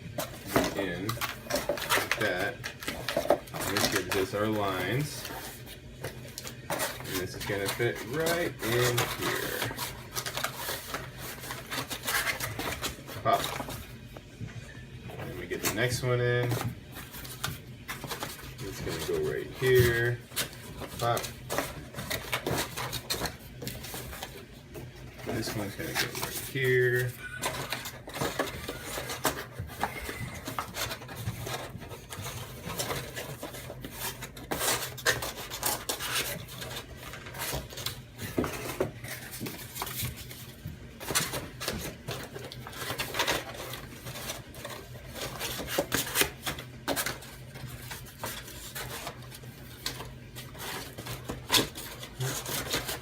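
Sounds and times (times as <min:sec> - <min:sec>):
cardboard rubbing and scraping: 0:00.0 - 0:14.0, 0:15.1 - 0:53.0.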